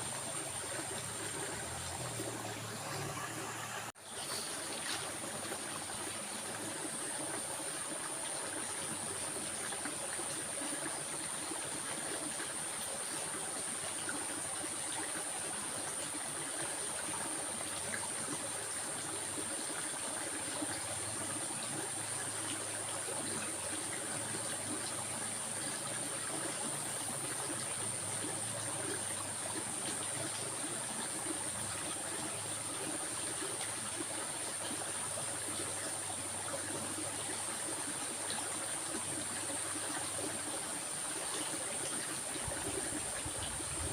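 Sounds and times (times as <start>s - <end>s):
stream flowing and trickling: 0.0s - 43.9s.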